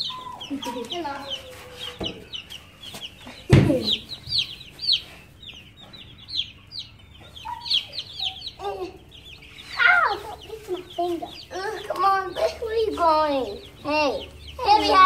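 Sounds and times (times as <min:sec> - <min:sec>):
chicks cheeping: 0:00.0 - 0:15.0
hen clucking: 0:00.0 - 0:15.0.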